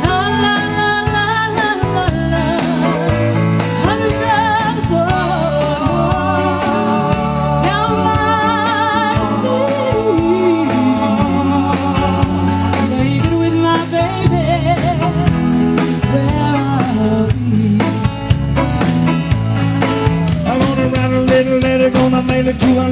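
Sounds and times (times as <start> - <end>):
bass: 0.0 - 22.9
drum kit: 0.0 - 22.9
keyboard: 0.0 - 22.9.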